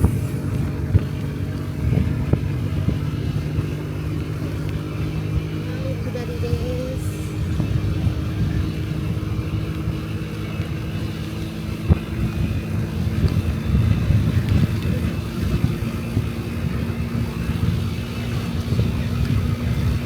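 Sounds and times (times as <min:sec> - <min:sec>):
scooter engine running: 0:00.0 - 0:20.0
wind rumble on microphone: 0:00.0 - 0:20.0.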